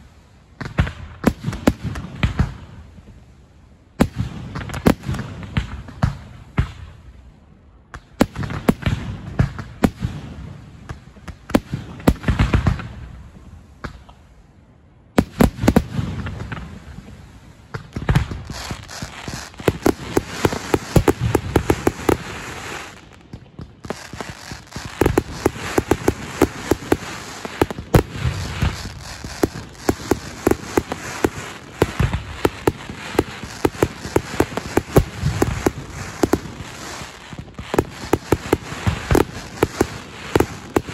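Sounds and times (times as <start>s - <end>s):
fireworks bangs and crackling: 0.0s - 3.3s, 4.0s - 7.1s, 7.9s - 14.3s, 15.2s - 40.9s.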